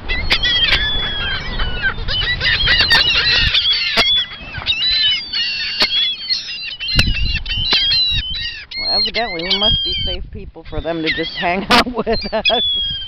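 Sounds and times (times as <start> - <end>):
gulls squawking: 0.0 - 13.0.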